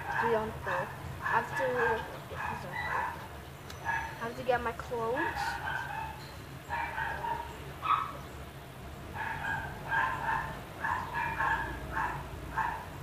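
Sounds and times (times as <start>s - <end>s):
dog yapping: 0.0s - 4.2s, 5.3s - 8.2s, 9.2s - 12.9s.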